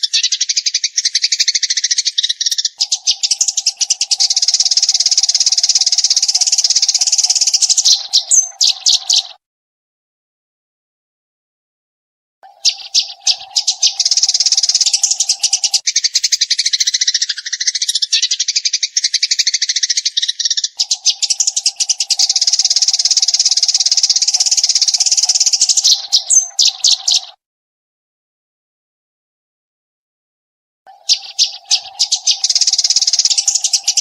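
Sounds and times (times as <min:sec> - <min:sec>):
sparrow chattering trill: 0:00.0 - 0:09.4, 0:12.5 - 0:27.4, 0:30.9 - 0:34.0.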